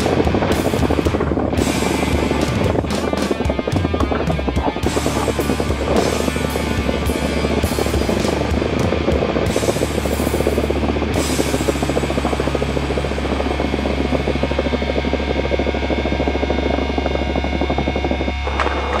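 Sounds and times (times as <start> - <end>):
fast dense drumming: 0.0 - 19.0
heavy metal music: 0.0 - 19.0
steady low hum: 0.0 - 19.0.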